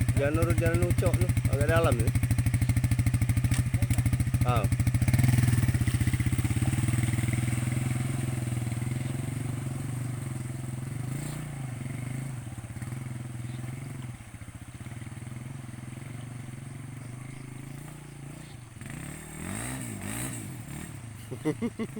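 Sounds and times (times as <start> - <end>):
motorcycle engine at low revs: 0.0 - 21.9.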